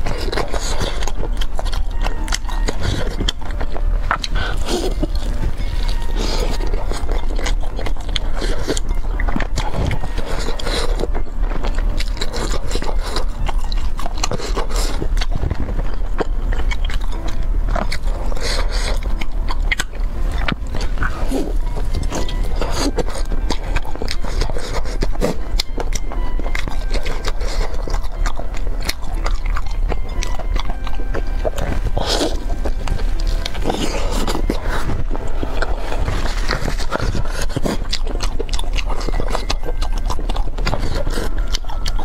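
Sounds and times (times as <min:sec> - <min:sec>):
crunchy chewing: 0:00.0 - 0:42.0.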